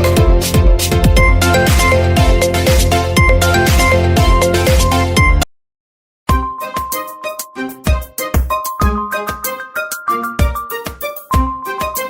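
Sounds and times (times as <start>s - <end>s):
electronic dance ringtone: 1.2s - 5.4s, 6.4s - 11.9s.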